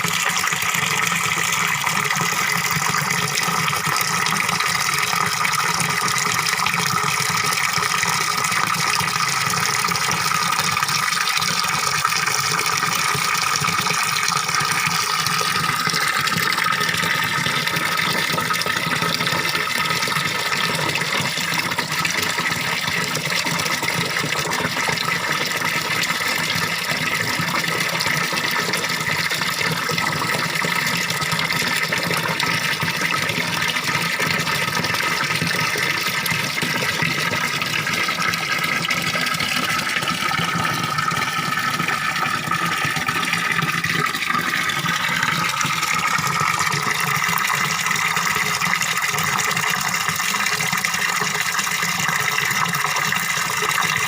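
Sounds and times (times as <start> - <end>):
waterfall splashing into pond: 0.0 - 54.0.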